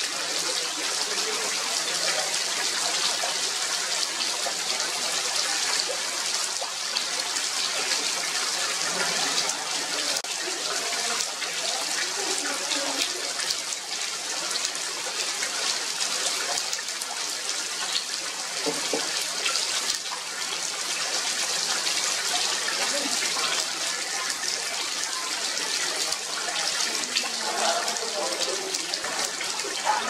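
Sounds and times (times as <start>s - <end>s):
heavy rain on foliage: 0.0s - 30.0s.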